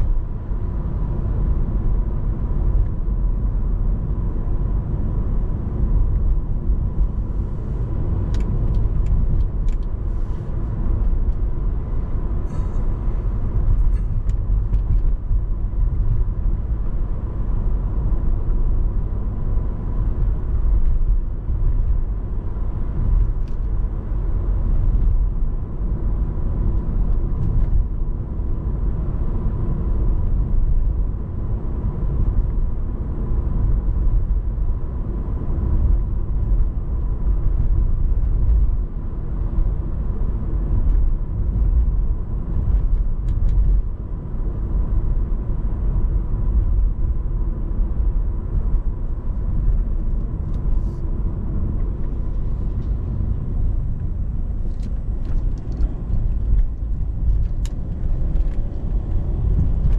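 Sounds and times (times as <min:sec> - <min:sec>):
diesel car driving: 0:00.0 - 0:59.9.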